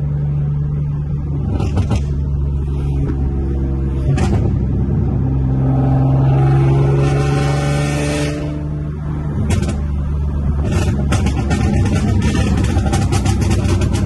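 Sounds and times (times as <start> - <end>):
car engine and exhaust: 0.0 - 14.0.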